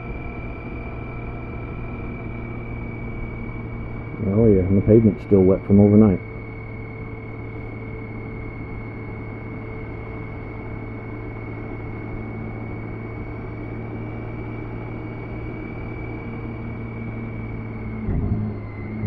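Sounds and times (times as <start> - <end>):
motorcycle engine humming: 0.0 - 19.0
road and wind noise: 0.0 - 19.0.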